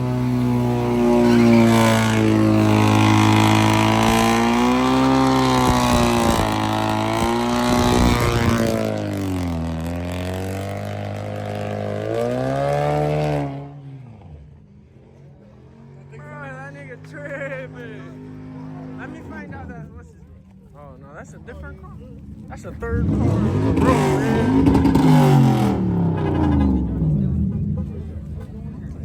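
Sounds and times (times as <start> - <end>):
car engine revving: 0.0 - 20.1, 21.4 - 29.0.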